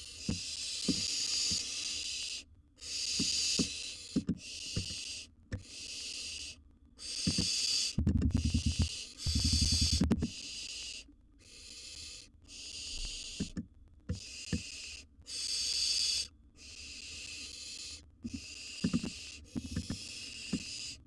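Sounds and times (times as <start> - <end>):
owl chick hissing begging call: 0.0 - 8.0, 8.6 - 13.5, 14.2 - 21.0.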